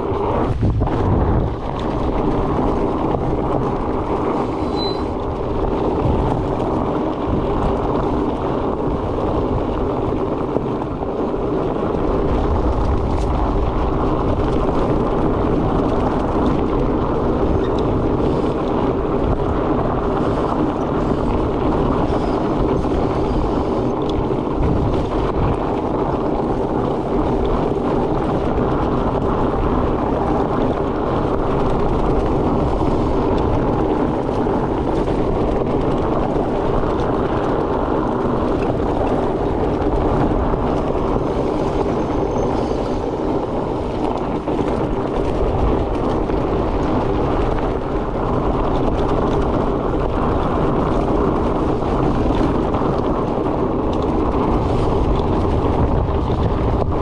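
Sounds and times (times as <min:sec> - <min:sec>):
bicycle tyres rolling: 0:00.0 - 0:57.0
wind noise: 0:00.0 - 0:57.0.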